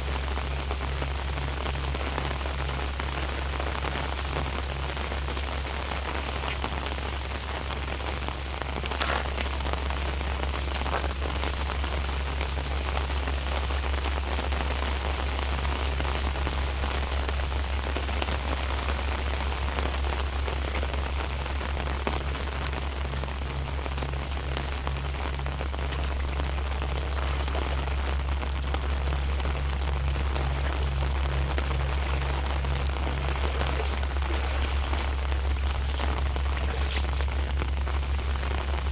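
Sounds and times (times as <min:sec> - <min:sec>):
low rumble: 0:00.0 - 0:38.9
steady rain falling: 0:00.0 - 0:38.9.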